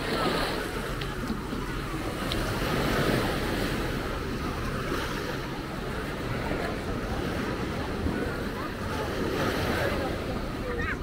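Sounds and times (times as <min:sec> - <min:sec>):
sea surf washing onto beach: 0:00.0 - 0:11.0.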